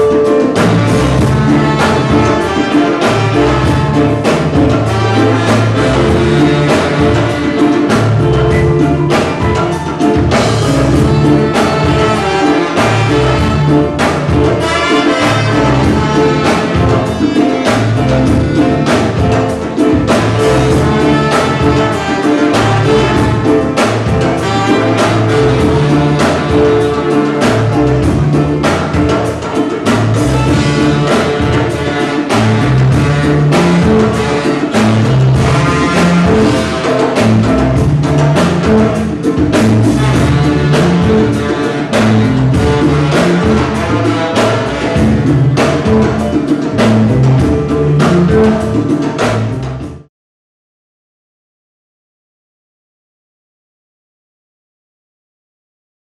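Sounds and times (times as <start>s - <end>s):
ska band playing: 0.0s - 50.1s.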